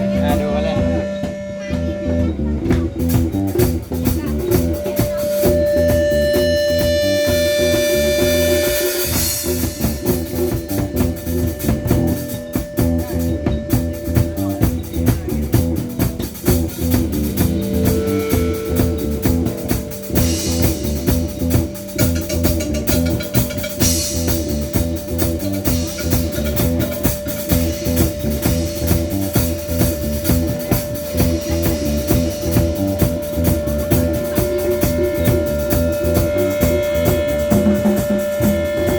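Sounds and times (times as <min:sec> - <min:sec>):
live band playing: 0:00.0 - 0:38.9
steady held tone: 0:00.0 - 0:38.9
cymbal crashes: 0:03.8 - 0:14.5, 0:16.0 - 0:38.9.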